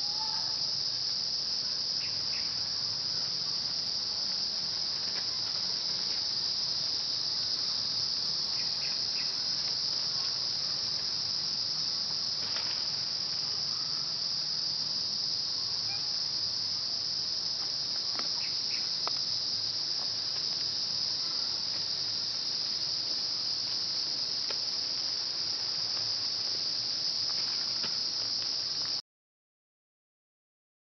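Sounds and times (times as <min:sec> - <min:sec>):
insects chorus: 0:00.0 - 0:29.0.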